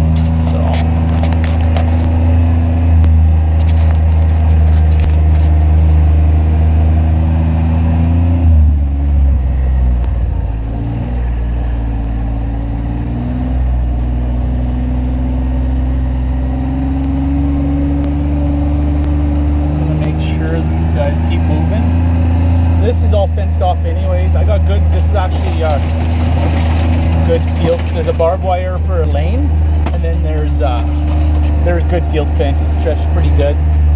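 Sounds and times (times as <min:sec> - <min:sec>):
vehicle engine running: 0:00.0 - 0:33.9.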